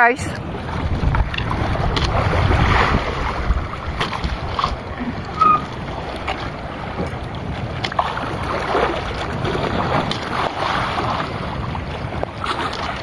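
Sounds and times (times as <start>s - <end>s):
water washing against boat hull: 0.0s - 13.0s
wind buffeting microphone: 0.0s - 13.0s.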